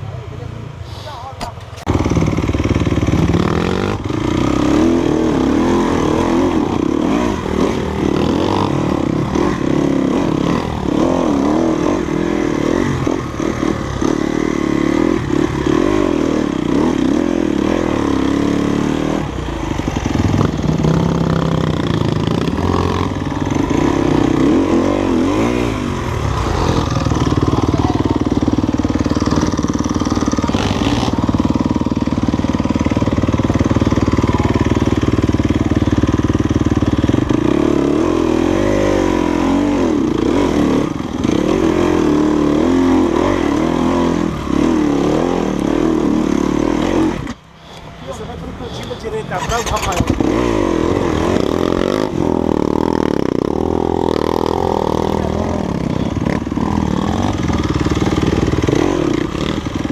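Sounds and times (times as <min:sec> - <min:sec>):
off-road motorcycle engine revving: 0:01.2 - 0:59.9.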